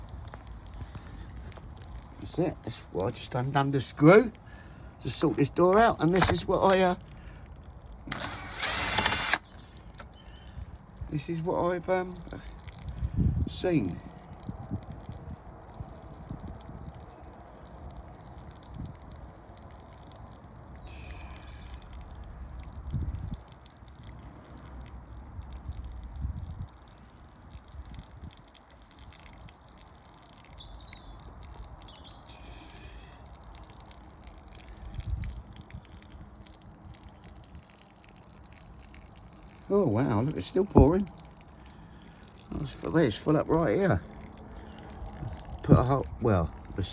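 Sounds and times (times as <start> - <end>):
water pouring and trickling: 0.0 - 46.9.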